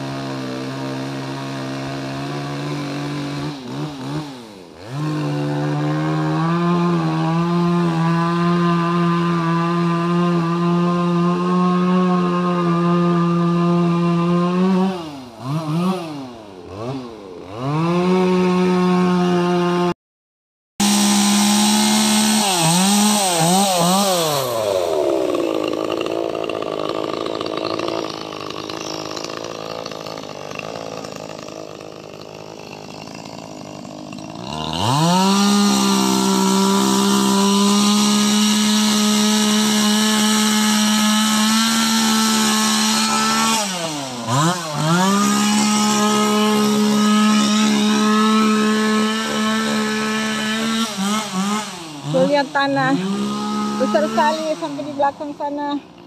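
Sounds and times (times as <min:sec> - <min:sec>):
chainsaw running: 0:00.0 - 0:20.0, 0:20.8 - 0:56.0.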